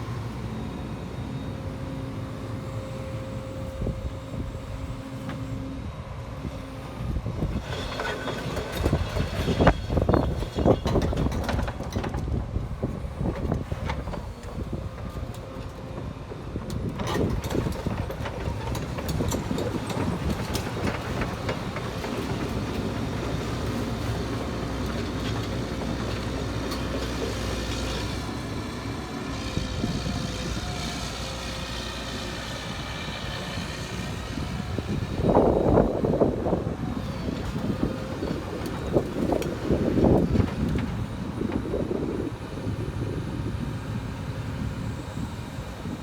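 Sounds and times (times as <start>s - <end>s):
excavator engine rumble: 0.0s - 46.0s.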